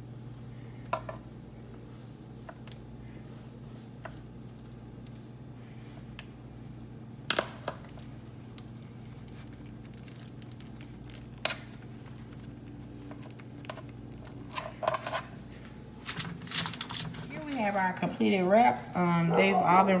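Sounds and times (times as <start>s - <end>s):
hands rolling tortillas: 0.0s - 17.8s
steady low hum: 0.0s - 20.0s.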